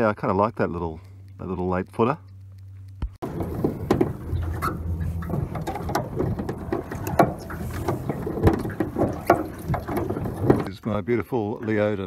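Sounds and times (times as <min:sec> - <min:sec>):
low hum: 0:01.0 - 0:10.7.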